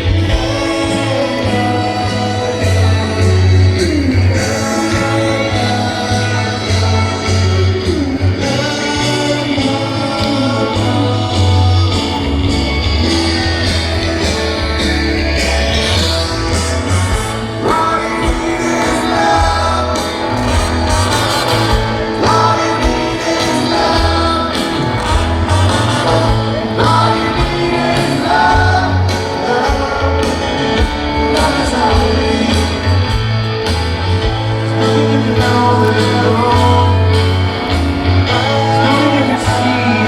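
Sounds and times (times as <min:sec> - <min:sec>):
live rock band playing: 0:00.0 - 0:40.0
person singing: 0:00.0 - 0:40.0.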